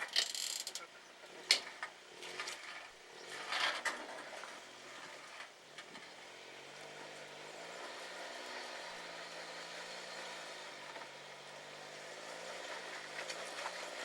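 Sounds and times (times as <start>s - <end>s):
engine running at low revs: 0.6s - 14.0s.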